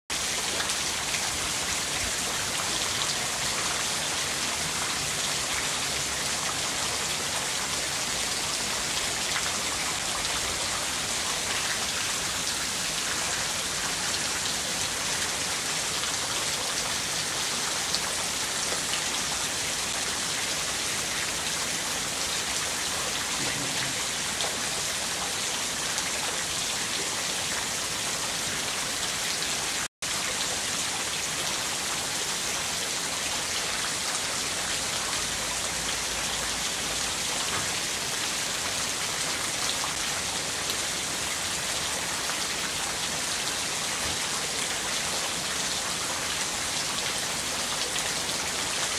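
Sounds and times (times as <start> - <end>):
rain on concrete and puddles: 0.1 - 48.9.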